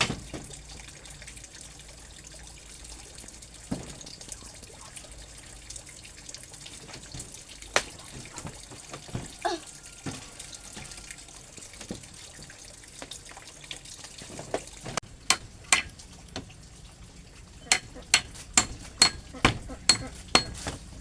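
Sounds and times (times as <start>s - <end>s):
water drips: 0.0s - 21.0s
water trickling and splashing: 0.0s - 21.0s.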